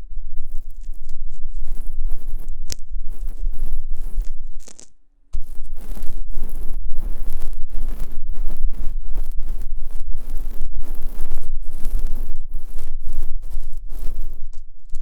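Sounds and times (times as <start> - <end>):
ear pick scraping microphone: 0.0 - 15.0.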